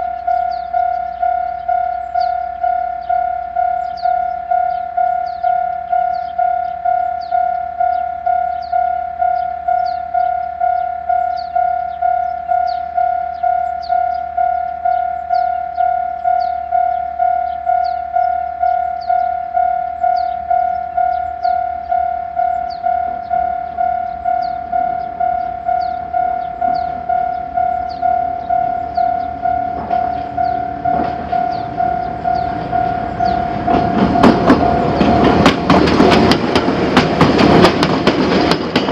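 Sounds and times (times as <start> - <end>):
electronic crossing bell ringing: 0.0 - 38.9
train approaching: 0.0 - 38.9.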